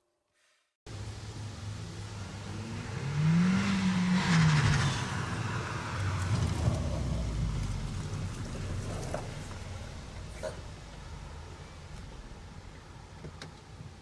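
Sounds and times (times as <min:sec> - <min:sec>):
car passing by: 0:00.9 - 0:13.1.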